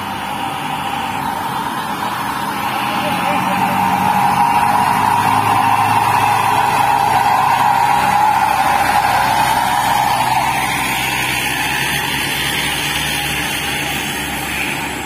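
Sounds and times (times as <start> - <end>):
dump truck engine droning: 0.0 - 15.0.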